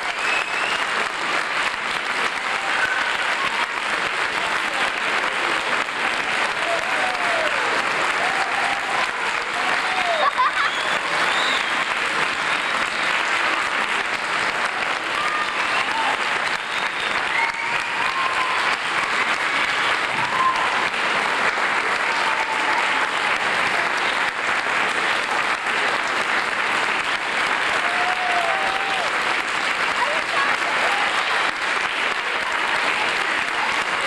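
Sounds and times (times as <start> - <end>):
audience applauding: 0.0 - 34.0.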